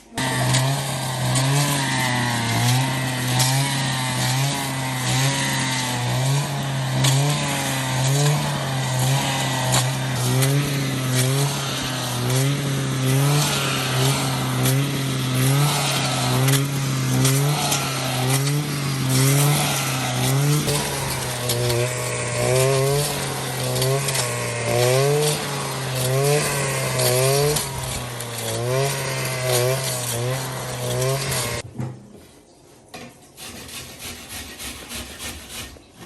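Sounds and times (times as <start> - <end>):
engine running: 0.2 - 31.6.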